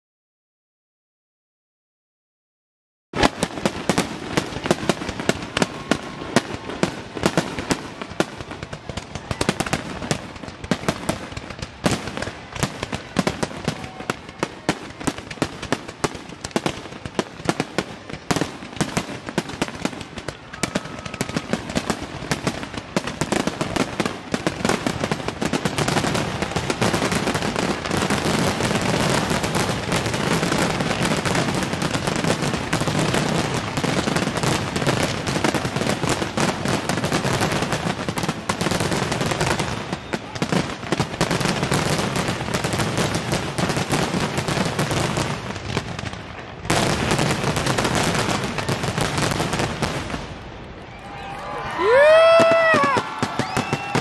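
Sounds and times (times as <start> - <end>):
fireworks crackling and popping: 3.2 - 54.0.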